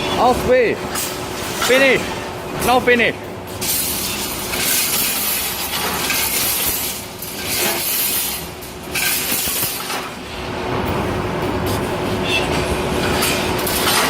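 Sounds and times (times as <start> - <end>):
machine clatter and hum: 0.0 - 14.0.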